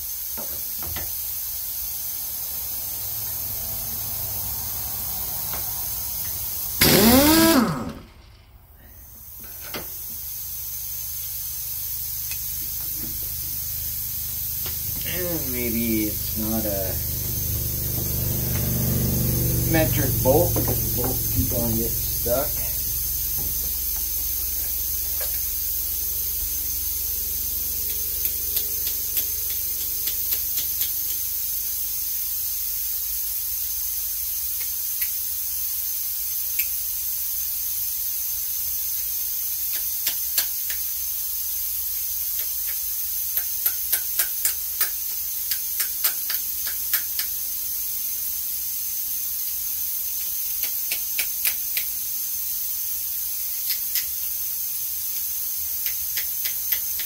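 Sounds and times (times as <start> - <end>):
compressed air hissing: 0.0 - 57.0.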